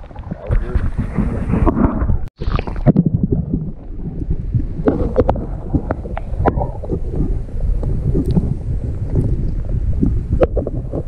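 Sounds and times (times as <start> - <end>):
muffled underwater flowing water: 0.0 - 11.0.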